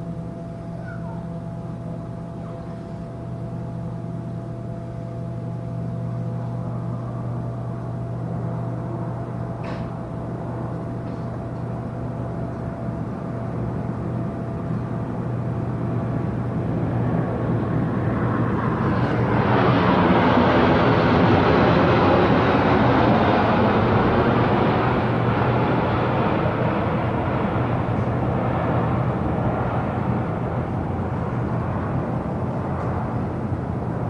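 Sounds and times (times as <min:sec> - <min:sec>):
ship machinery hum: 0:00.0 - 0:34.0.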